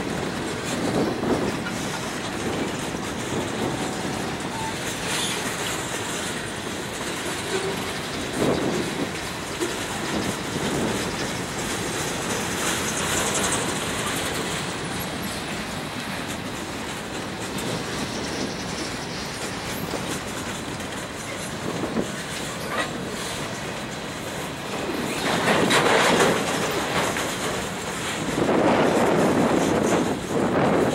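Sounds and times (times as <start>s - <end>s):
freight train cars rolling past: 0.0s - 30.9s.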